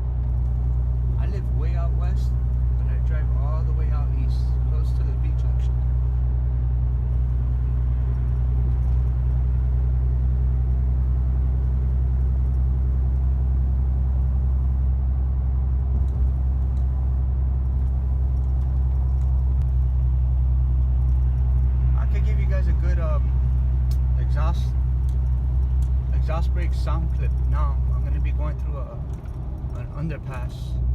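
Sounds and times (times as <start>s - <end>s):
diesel pickup driving: 0.0s - 30.9s.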